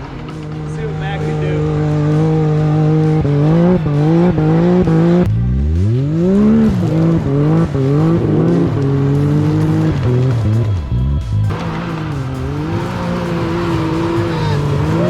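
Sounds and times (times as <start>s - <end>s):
engine revving high: 0.0s - 15.0s.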